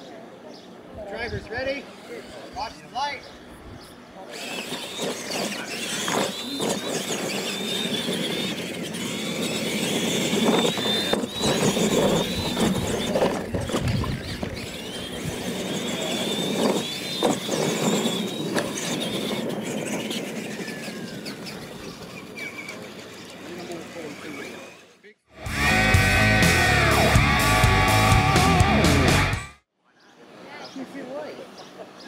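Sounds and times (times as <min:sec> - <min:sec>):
electric toy truck motors whining: 0:03.4 - 0:29.5.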